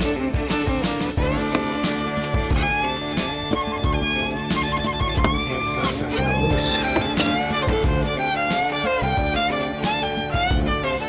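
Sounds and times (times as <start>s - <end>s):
music with string instruments: 0.0s - 11.0s.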